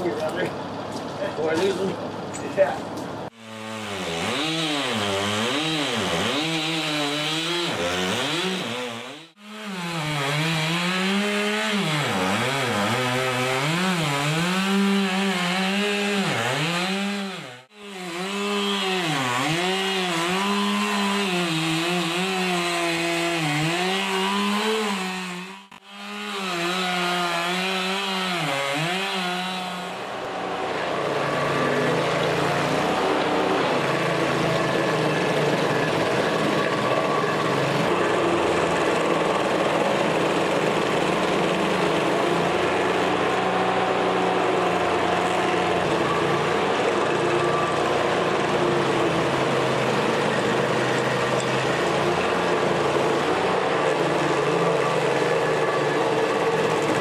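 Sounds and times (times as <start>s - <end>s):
chainsaw cutting wood: 3.3s - 57.0s
stump grinder engine: 3.3s - 57.0s.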